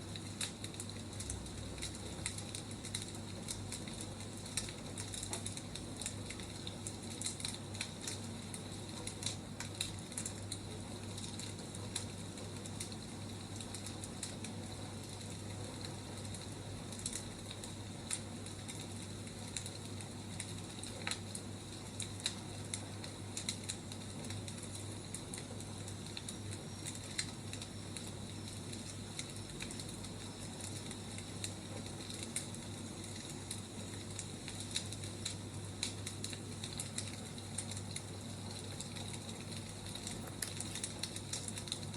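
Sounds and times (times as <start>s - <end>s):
firewood crackling and popping: 0.0s - 41.9s.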